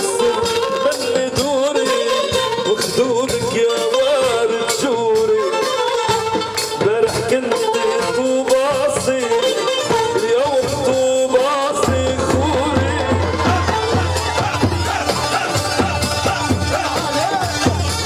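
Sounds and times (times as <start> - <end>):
man singing ornamented melody: 0.0 - 18.0.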